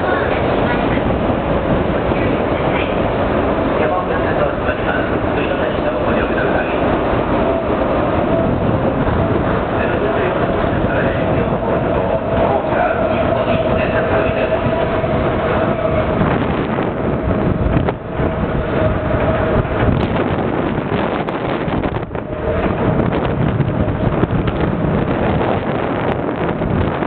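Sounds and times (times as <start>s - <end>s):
electric train whine: 0.0s - 27.0s
train wheels rumbling on rails: 0.0s - 27.0s.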